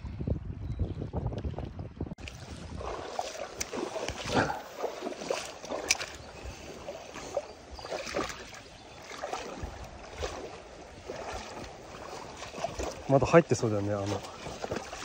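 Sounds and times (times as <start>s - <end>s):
river water lapping on stones: 2.2s - 15.0s.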